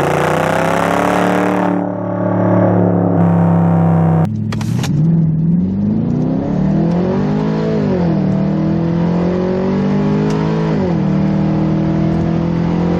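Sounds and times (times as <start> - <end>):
loud car engine revving: 0.0 - 12.9.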